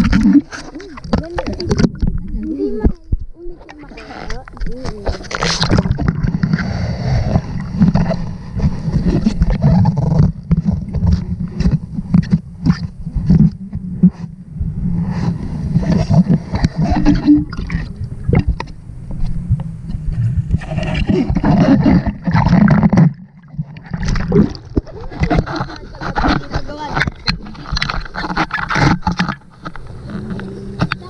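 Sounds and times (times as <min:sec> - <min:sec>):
muffled underwater sloshing: 0:00.0 - 0:31.0.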